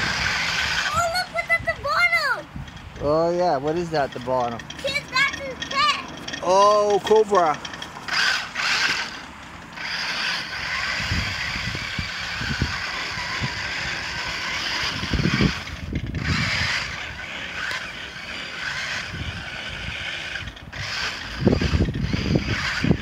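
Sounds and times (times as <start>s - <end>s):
toy truck electric motor whirring: 0.0s - 23.0s.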